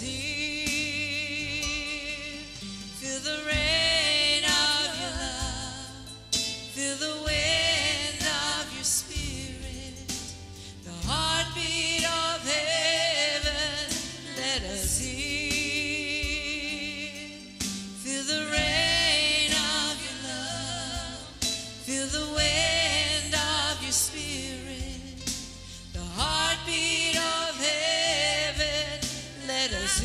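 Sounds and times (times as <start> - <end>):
person singing with vibrato: 0.0 - 30.0.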